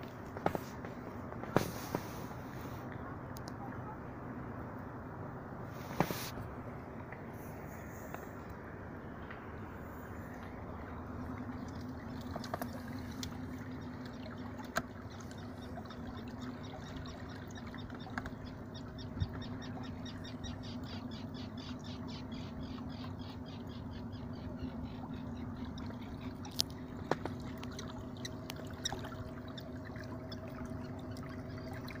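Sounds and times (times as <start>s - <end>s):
water lapping against hull: 0.0s - 32.0s.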